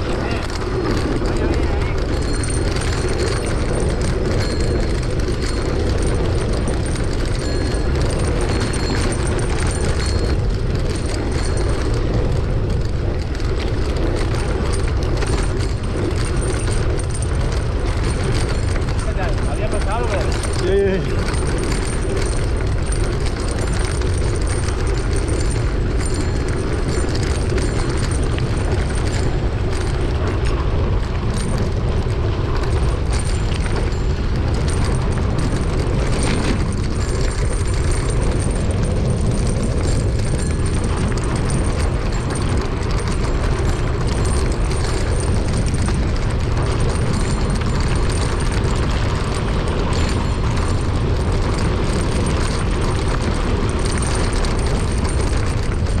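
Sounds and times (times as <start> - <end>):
bike bumps and rattles: 0.0 - 56.0
wind buffeting microphone: 0.0 - 56.0.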